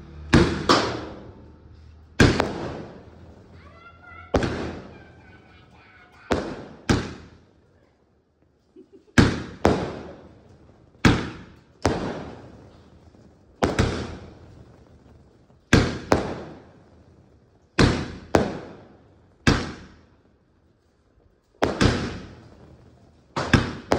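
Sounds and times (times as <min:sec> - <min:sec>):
firework bangs with echo: 0:00.0 - 0:07.7, 0:08.5 - 0:23.9.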